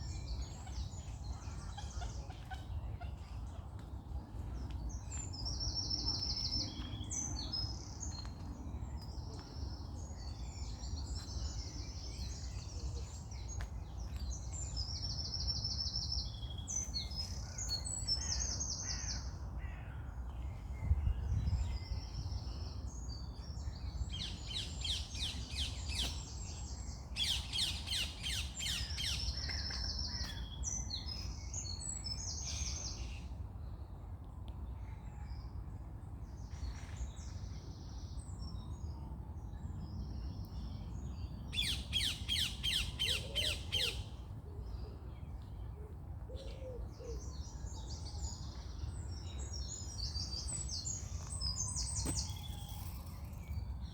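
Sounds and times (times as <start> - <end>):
songbirds singing: 0.0 - 33.9, 34.8 - 53.9.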